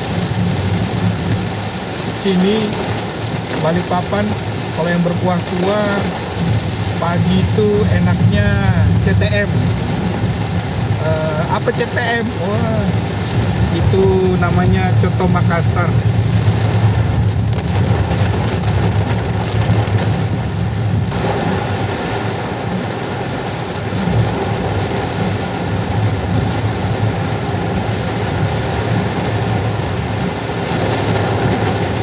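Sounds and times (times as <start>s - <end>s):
car engine and tyres rumbling: 0.0s - 32.0s
heavy rain on car roof: 0.0s - 32.0s.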